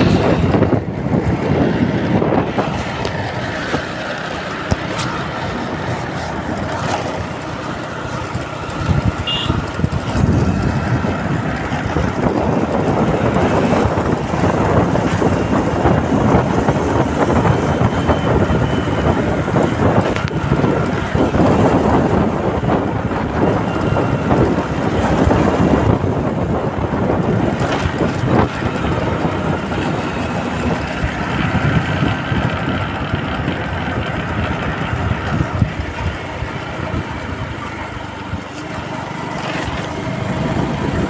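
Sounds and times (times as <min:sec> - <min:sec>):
motorcycle engine running: 0:00.0 - 0:41.0
wind buffeting microphone: 0:00.0 - 0:41.0.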